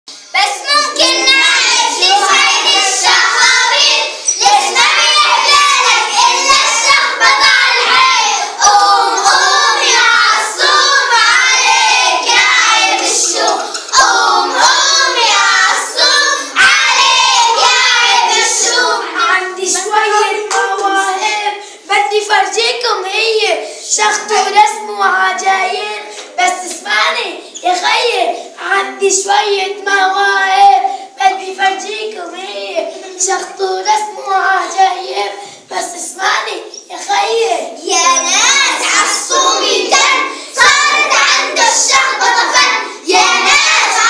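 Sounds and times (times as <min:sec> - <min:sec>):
children singing: 0:00.5 - 0:21.6, 0:29.1 - 0:44.0.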